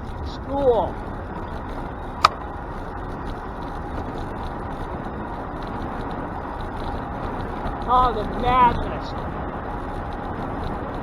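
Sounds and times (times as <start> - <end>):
moving bike noise: 0.0 - 11.0.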